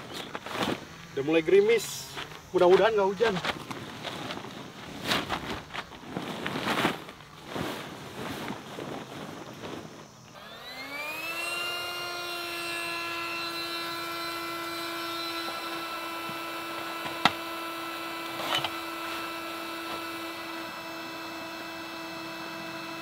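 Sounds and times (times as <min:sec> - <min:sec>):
electric air pump whining: 0:00.0 - 0:23.0.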